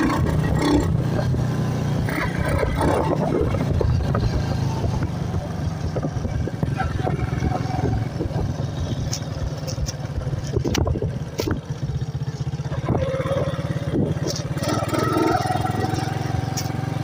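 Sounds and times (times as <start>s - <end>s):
motorcycle engine running: 0.0s - 17.0s
sharp clicks and rattles: 2.1s - 16.9s.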